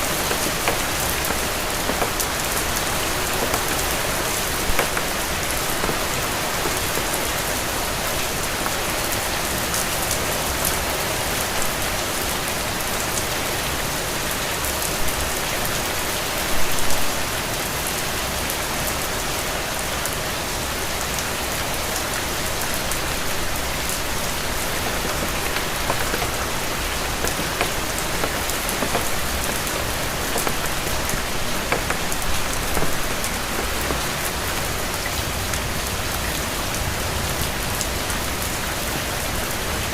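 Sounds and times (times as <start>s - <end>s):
spatter of rain drops: 0.0s - 39.9s
steady rain falling: 0.0s - 39.9s.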